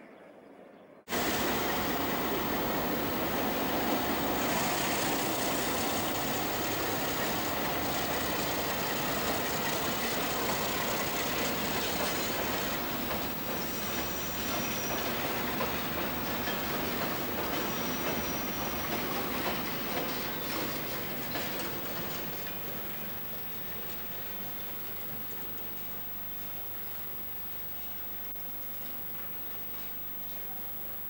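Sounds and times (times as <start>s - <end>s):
freight train rumbling and rattling: 1.1s - 26.6s.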